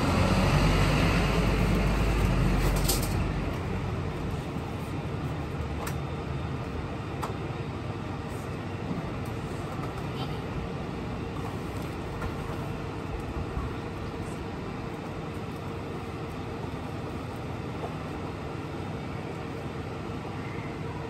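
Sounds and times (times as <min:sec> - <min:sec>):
large vehicle engine rumble: 0:00.0 - 0:21.0
street background: 0:00.0 - 0:21.0.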